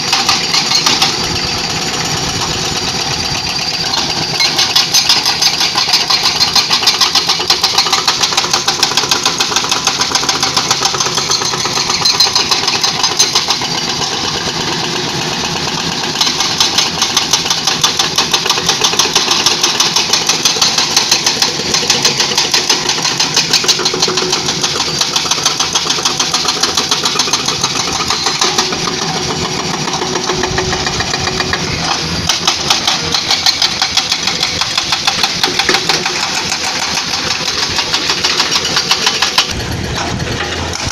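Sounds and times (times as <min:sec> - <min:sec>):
diesel engine running: 0:00.0 - 0:40.9
hydraulic breaker hammering rock: 0:00.0 - 0:40.9.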